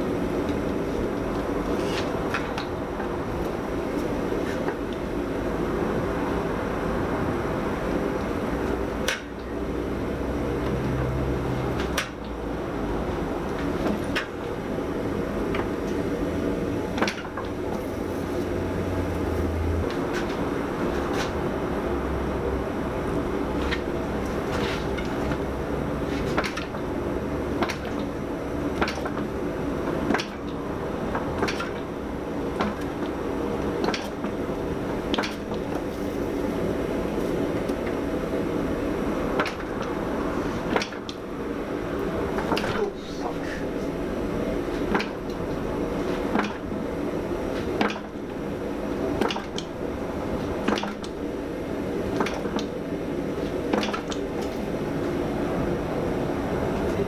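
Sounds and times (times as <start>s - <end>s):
gas forge running: 0.0s - 57.0s
steady hum: 0.0s - 57.0s.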